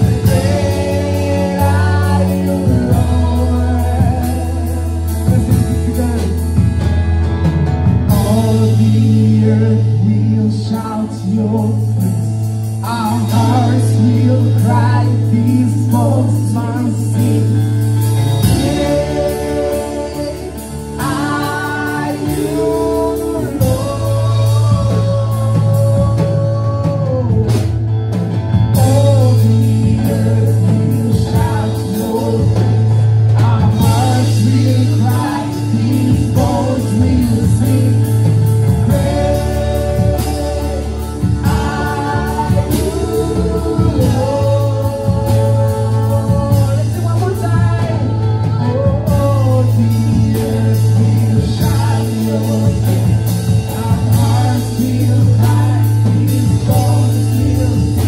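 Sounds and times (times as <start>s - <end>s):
worship band playing: 0.0s - 58.0s.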